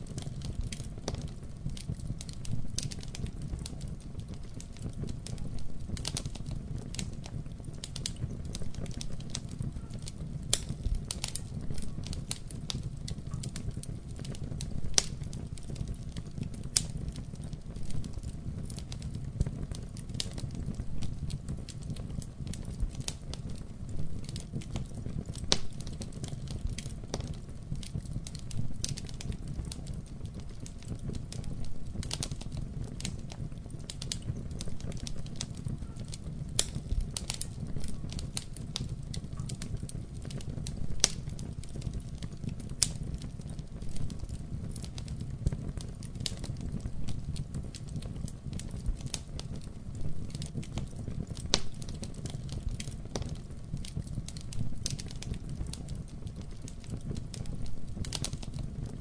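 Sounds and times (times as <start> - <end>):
fire crackling and popping: 0.0 - 59.0
low rumble of flame: 0.0 - 59.0.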